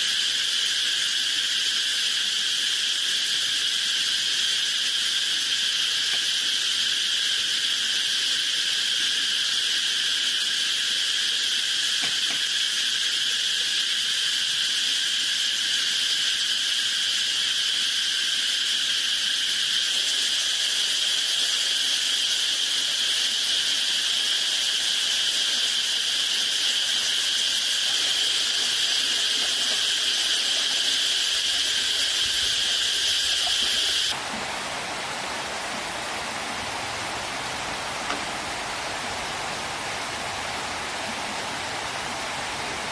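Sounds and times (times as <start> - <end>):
insects droning: 0.0 - 42.9
rushing hiss: 0.0 - 42.9.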